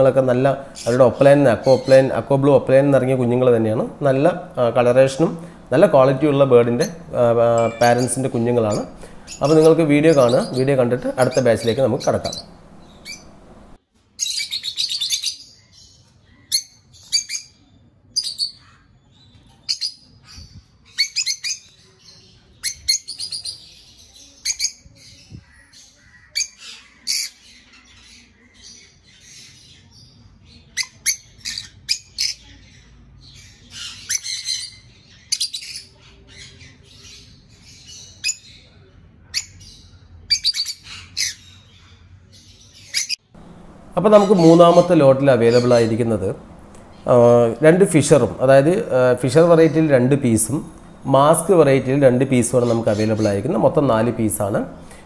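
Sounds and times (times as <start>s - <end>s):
lovebirds chirping and squawking: 0.0s - 55.0s.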